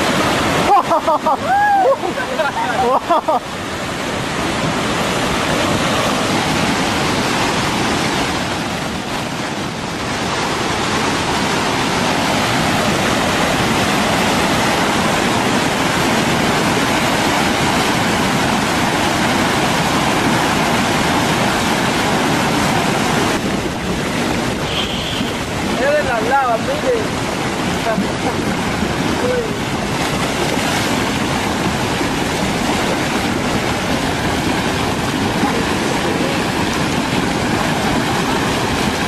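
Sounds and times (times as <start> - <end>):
flood water rushing: 0.0 - 39.0.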